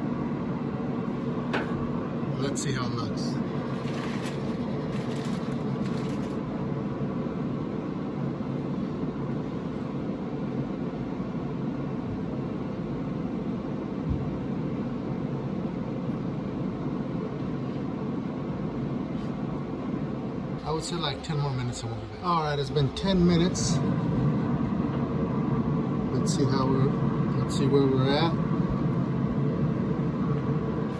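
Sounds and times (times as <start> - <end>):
low machine hum: 0.0 - 30.9.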